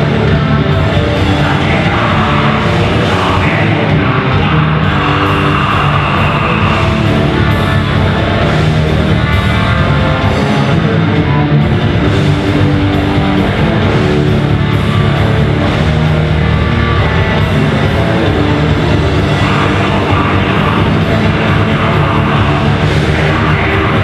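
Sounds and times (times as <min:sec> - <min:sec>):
distorted electric guitars: 0:00.0 - 0:24.0
live rock band: 0:00.0 - 0:24.0.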